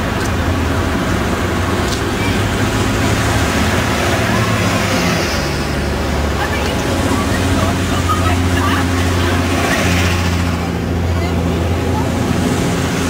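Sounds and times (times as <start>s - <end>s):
bus diesel engines: 0.0s - 13.0s
traffic noise: 0.0s - 13.0s
tyres hissing on wet road: 0.0s - 13.0s.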